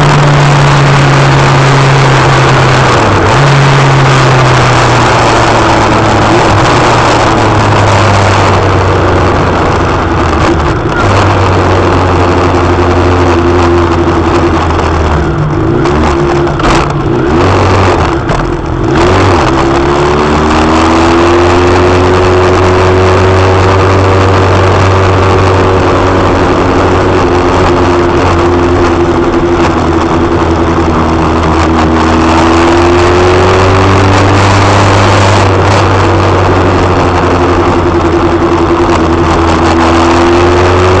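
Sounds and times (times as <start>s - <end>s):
motorcycle engine at low revs: 0.0s - 41.0s.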